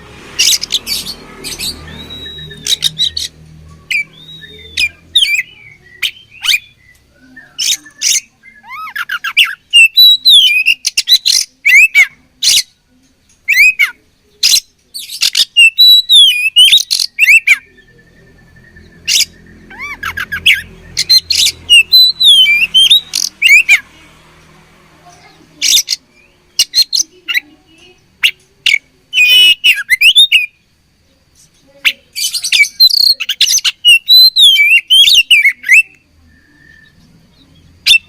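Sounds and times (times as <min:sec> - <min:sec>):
bird singing loudly: 0:00.4 - 0:12.7, 0:13.5 - 0:24.0, 0:28.2 - 0:30.6, 0:31.8 - 0:38.0.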